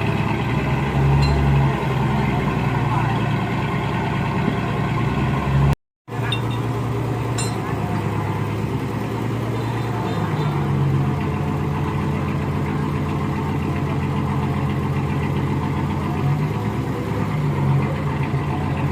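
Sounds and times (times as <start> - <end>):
heavy machine engine running: 0.0 - 18.9.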